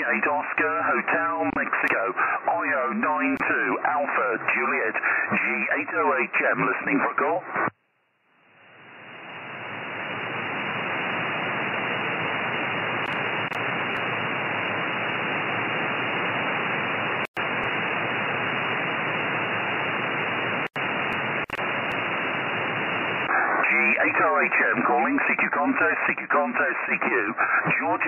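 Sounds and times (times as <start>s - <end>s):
radio receiver hiss: 0.0s - 7.8s, 8.5s - 28.0s.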